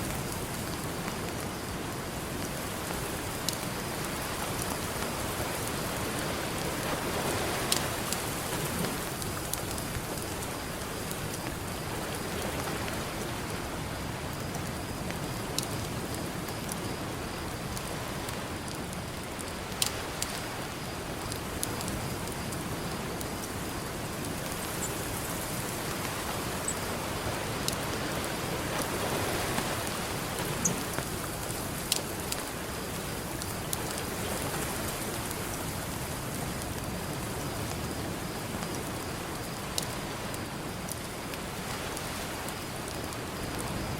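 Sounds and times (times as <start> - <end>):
ocean surf: 0.0 - 14.4, 17.1 - 43.9.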